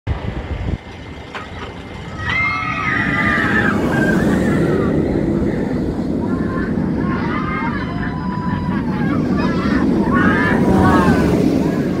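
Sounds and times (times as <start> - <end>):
roller coaster rumbling on track: 0.1 - 12.0
riders screaming: 2.0 - 12.0.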